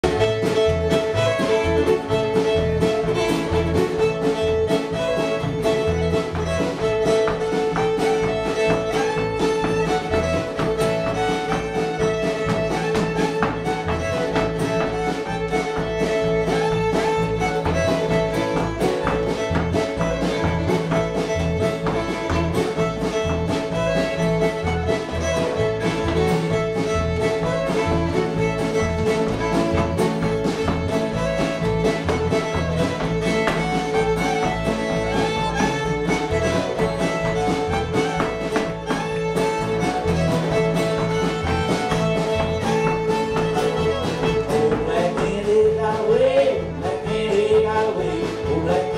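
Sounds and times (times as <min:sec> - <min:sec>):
drums with sharp taps: 0:00.0 - 0:48.9
fiddle holding long notes: 0:00.0 - 0:48.9
strummed acoustic guitar: 0:00.0 - 0:48.9
upright bass: 0:00.0 - 0:48.9.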